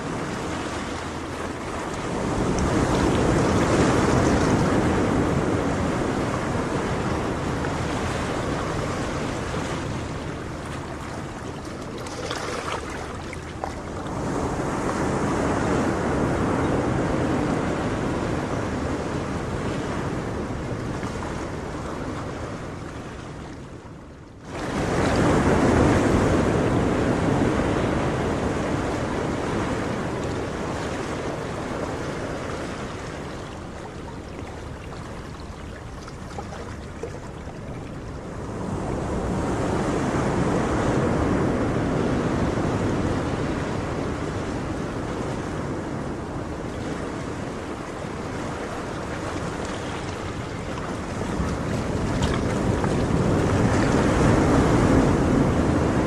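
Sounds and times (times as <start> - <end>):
ocean waves washing on shore: 0.0 - 56.0.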